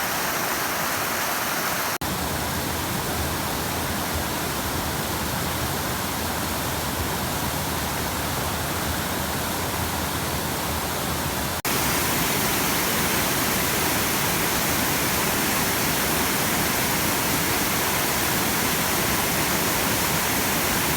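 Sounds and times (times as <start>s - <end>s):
creek water rushing over cascades: 0.0s - 20.9s.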